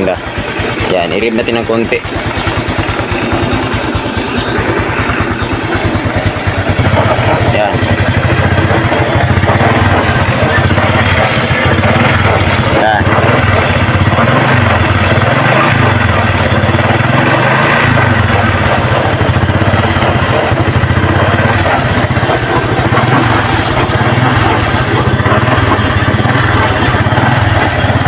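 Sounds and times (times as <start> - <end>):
engine knocking: 0.0 - 28.0
motorcycle engine revving: 0.0 - 28.0.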